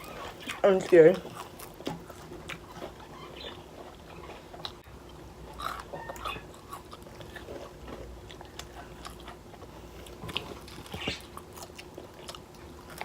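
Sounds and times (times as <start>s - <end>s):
chewing and biting: 0.0s - 13.0s.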